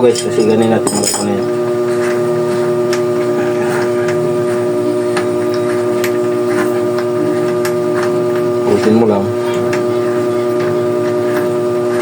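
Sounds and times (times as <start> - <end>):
steady hum of held tones: 0.0 - 12.0.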